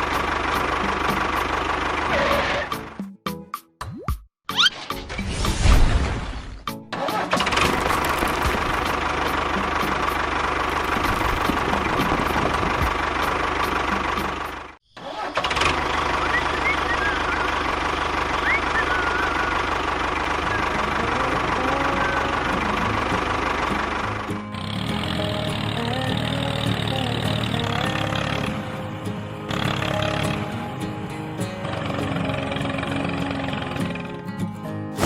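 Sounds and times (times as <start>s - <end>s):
small engine running: 0.0s - 3.0s, 7.0s - 34.3s.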